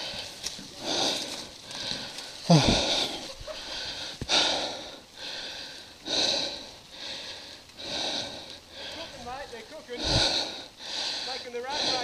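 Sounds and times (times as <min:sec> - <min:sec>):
person breathing hard: 0:00.0 - 0:09.2, 0:09.9 - 0:12.0.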